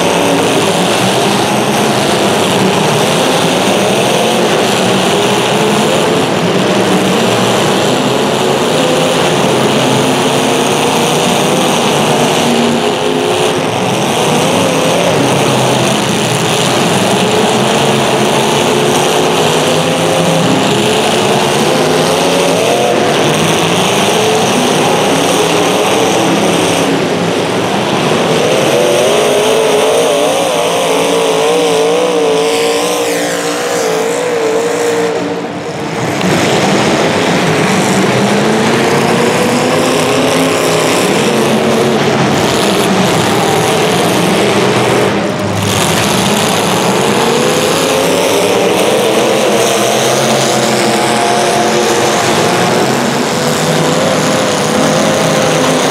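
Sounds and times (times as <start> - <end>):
race engines revving: 0.0 - 55.9.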